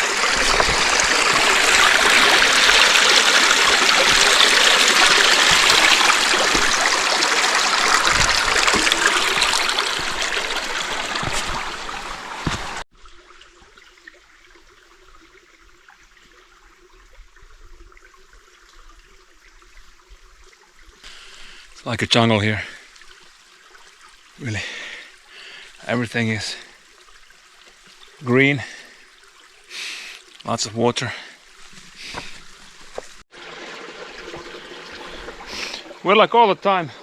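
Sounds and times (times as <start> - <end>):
creek rushing over stones: 0.0 - 37.0.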